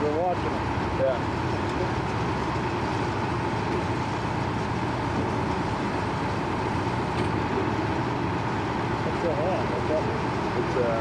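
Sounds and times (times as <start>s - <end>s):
heavy machinery rumbling: 0.0s - 11.0s.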